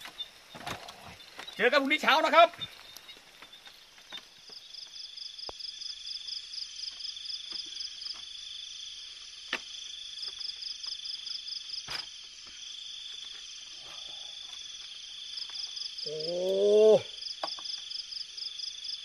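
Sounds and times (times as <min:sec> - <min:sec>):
insect pulsing trill: 0:00.0 - 0:19.0
insects high-pitched ringing: 0:00.0 - 0:19.0.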